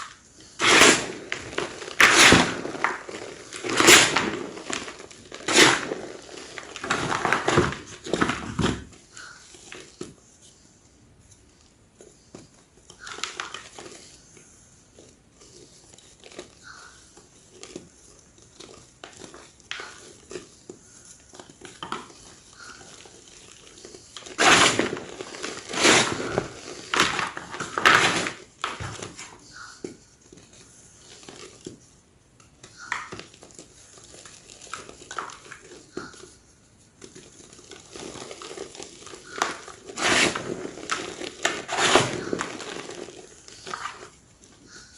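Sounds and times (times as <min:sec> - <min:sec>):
chalk crunching and crumbling: 0:00.0 - 0:44.9.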